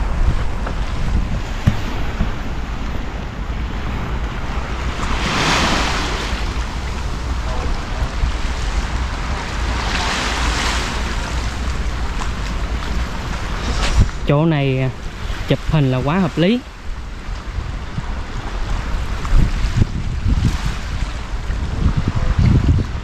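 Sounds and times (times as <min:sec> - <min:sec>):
sea waves washing onto shore: 0:00.0 - 0:23.0
wind buffeting microphone: 0:00.0 - 0:23.0.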